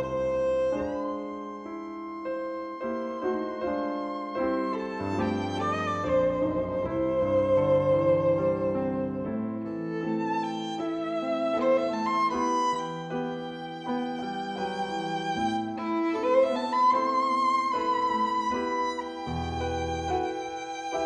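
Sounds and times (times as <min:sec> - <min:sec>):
piano chords and bass notes: 0:00.0 - 0:21.0
violin melody with vibrato: 0:00.0 - 0:21.0.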